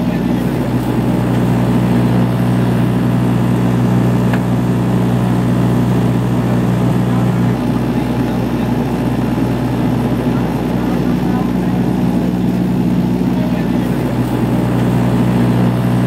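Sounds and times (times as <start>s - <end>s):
turboprop engine drone in cabin: 0.0s - 16.0s.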